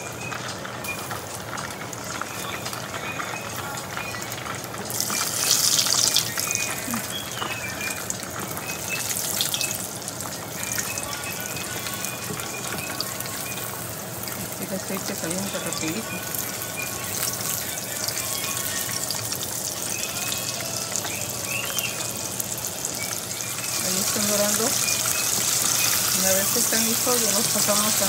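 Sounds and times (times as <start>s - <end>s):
fish deep-frying in oil: 0.0s - 28.0s.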